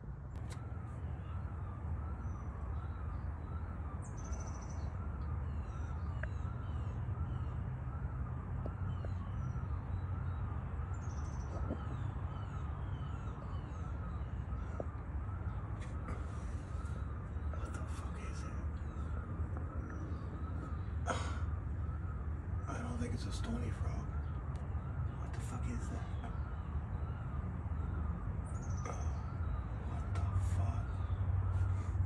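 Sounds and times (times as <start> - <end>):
small birds chirping: 0.4 - 32.0.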